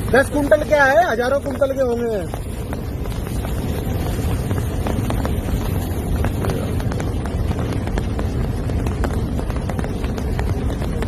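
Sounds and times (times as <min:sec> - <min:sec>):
boulders knocking together: 0:00.0 - 0:11.0
rushing water and mud: 0:00.0 - 0:11.0.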